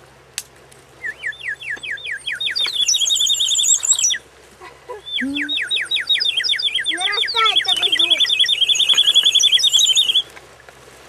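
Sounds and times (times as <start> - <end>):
wet wood whistling in a fire: 1.0 - 4.2, 5.2 - 10.9.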